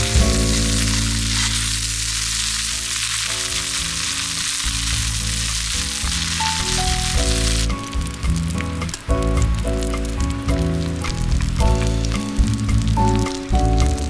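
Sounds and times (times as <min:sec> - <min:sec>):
food sizzling in a hot pan: 0:00.0 - 0:14.0.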